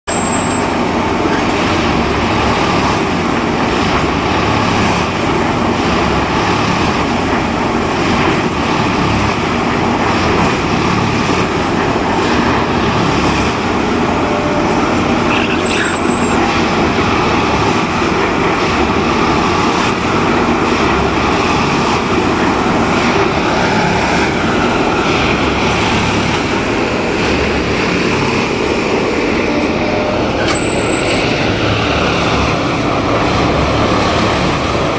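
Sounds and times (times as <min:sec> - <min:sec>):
tamping machine running: 0:00.1 - 0:34.9.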